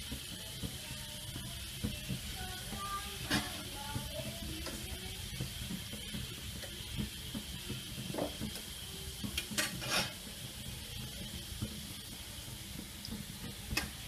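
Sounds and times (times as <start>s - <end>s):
steaks sizzling in a frying pan: 0.0s - 14.0s.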